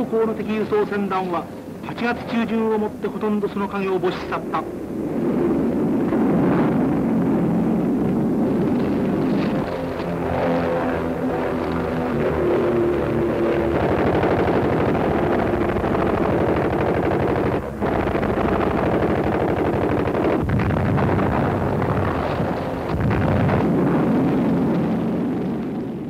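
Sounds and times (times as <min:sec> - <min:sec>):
propeller plane engine rattling: 0:00.0 - 0:26.0.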